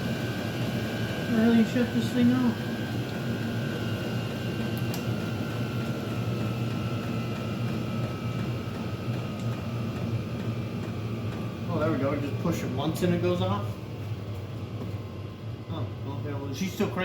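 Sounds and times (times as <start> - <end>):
heater blower hum: 0.0 - 17.0.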